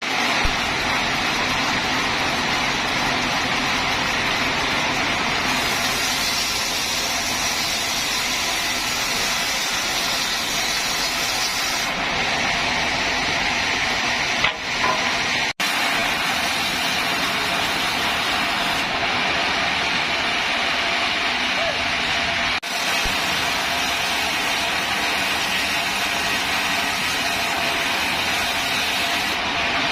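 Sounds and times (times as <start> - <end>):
band saw cutting log: 0.0 - 29.9.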